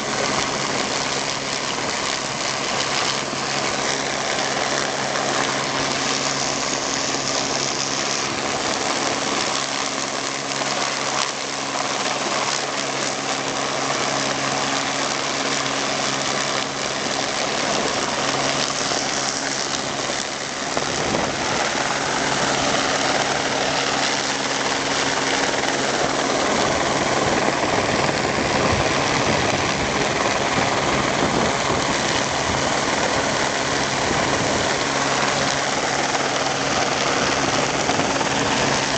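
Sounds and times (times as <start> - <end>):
engine-like drone: 0.0 - 38.9.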